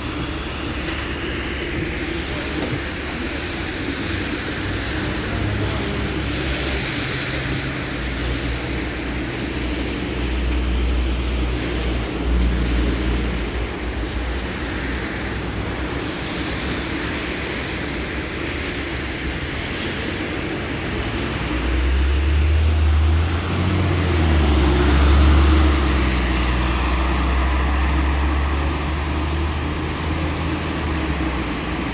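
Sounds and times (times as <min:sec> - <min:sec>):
bus engine hum and rumble: 0:00.0 - 0:31.9.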